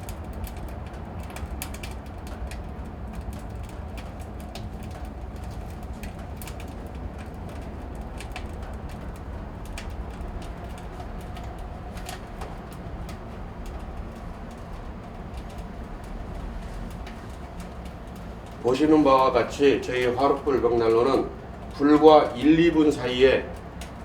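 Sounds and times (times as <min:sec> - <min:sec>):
low rumble of stove draft: 0:00.0 - 0:24.0
wood crackling and popping: 0:00.0 - 0:24.0.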